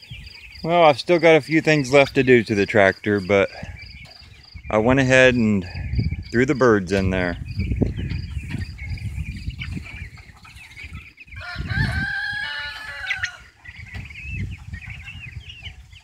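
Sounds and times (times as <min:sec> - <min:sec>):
turkey poults peeping: 0:00.0 - 0:16.0.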